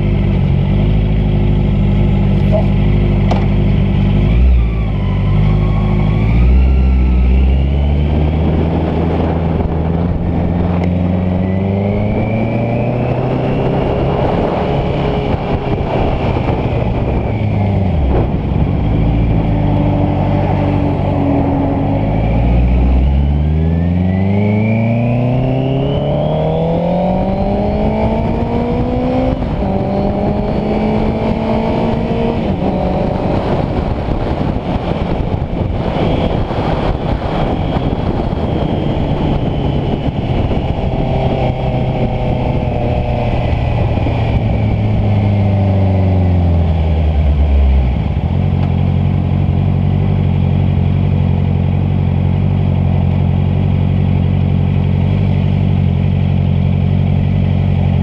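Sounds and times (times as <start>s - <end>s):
motorcycle engine accelerating: 0.0s - 58.0s
wind noise: 2.2s - 51.3s.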